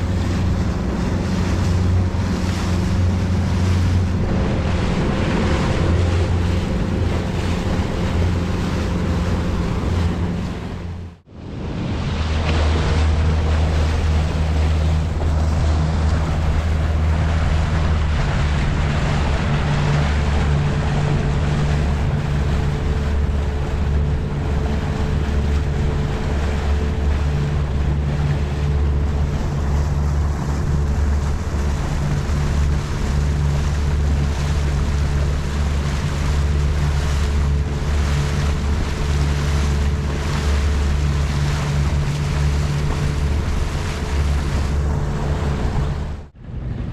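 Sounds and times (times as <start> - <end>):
boat engine running: 0.0 - 46.9
rushing water: 0.0 - 46.9
wind buffeting microphone: 0.0 - 46.9.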